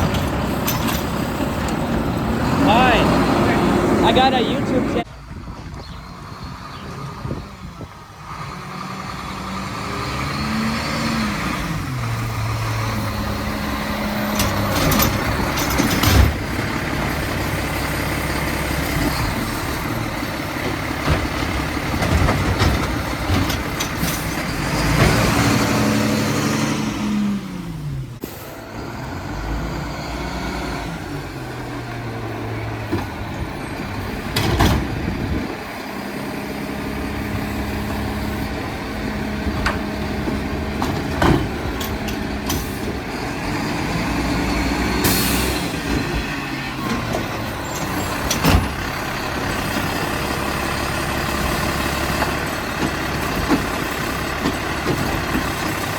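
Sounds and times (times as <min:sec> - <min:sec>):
garbage truck diesel engine revving: 0:00.0 - 0:55.9.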